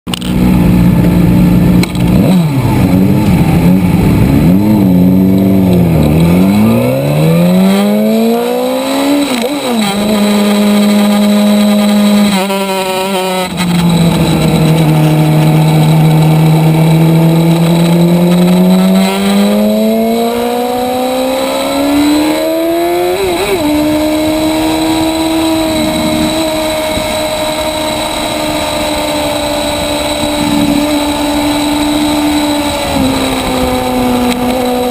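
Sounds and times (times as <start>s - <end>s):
motorcycle engine at speed: 0.1s - 34.9s.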